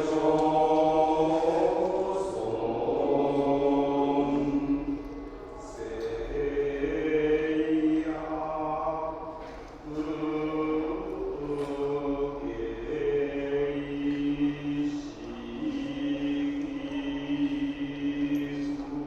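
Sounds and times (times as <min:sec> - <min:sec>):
monks chanting in unison: 0:00.0 - 0:19.0.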